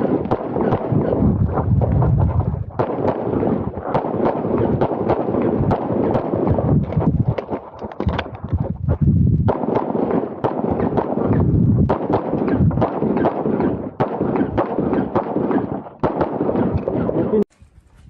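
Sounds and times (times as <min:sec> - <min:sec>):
rapid handgun fire with echo: 0:00.0 - 0:08.2, 0:09.5 - 0:17.4.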